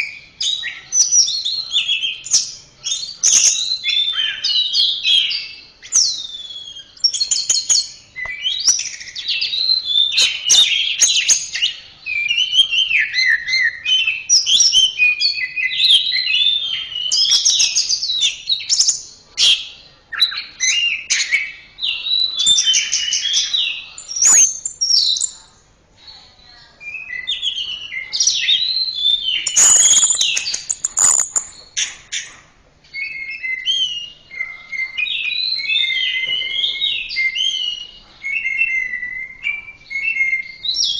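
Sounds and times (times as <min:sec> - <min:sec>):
thrush singing whistled trills: 0:00.0 - 0:19.2, 0:20.2 - 0:25.5, 0:26.8 - 0:32.3, 0:32.9 - 0:40.9.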